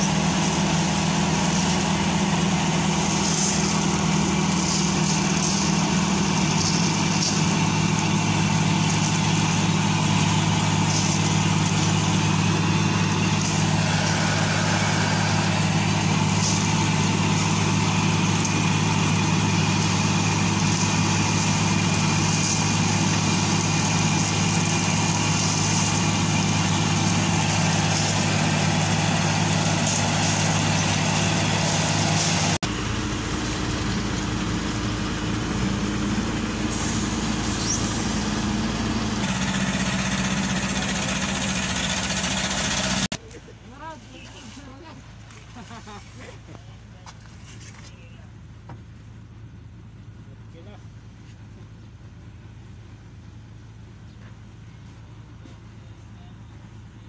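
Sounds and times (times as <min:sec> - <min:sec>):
heavy engine running: 0:00.0 - 0:57.0.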